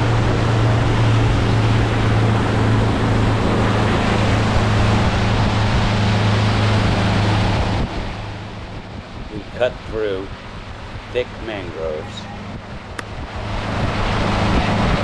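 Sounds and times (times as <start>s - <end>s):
motorboat engine droning: 0.0s - 15.0s
water rushing: 0.0s - 15.0s
wind: 0.0s - 15.0s.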